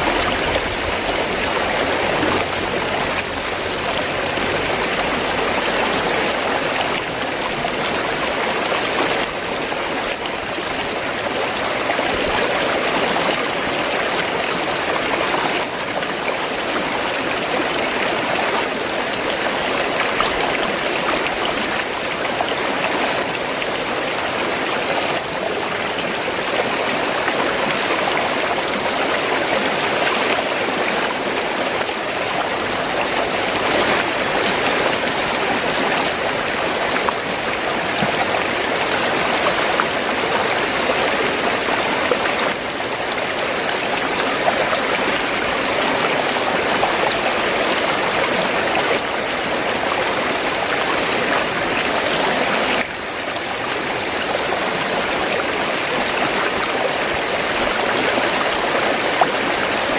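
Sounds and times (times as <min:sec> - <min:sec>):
fast-flowing water gurgling: 0:00.0 - 0:59.9.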